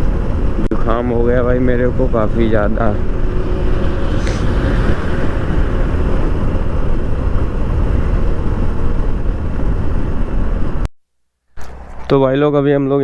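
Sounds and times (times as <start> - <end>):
motorcycle engine: 0.0 - 10.8
road noise: 0.0 - 10.9, 11.6 - 13.0
wind buffeting microphone: 0.0 - 10.9.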